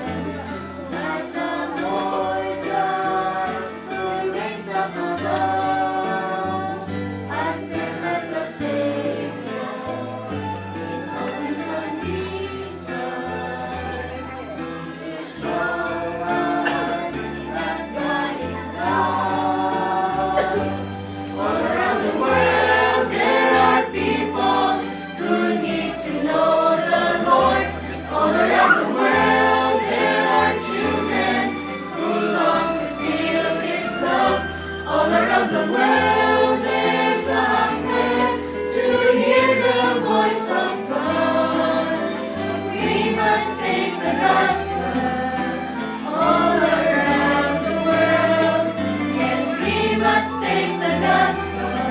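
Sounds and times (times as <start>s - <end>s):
group singing a christian song: 0.0s - 51.9s.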